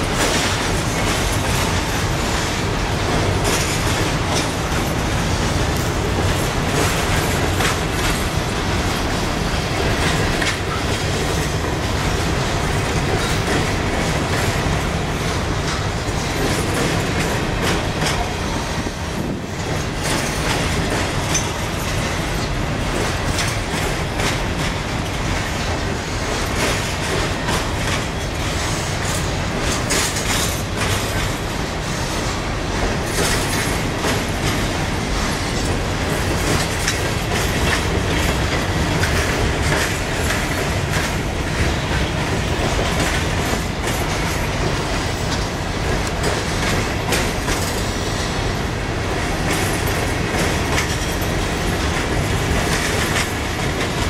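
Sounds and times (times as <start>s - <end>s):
train rumble: 0.0s - 54.0s
train wheels clicking over rail joints: 0.0s - 54.0s.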